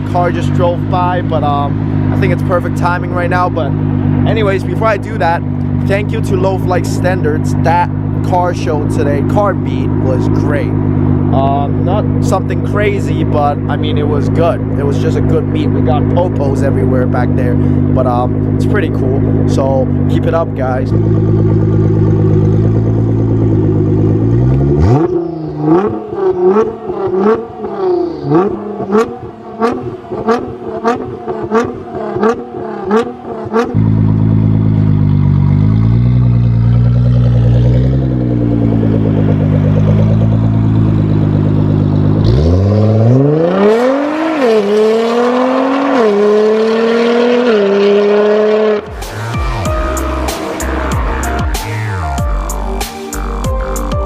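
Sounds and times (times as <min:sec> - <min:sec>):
car pulling away hard: 0:00.0 - 0:52.5
car engine idling: 0:00.0 - 0:54.0.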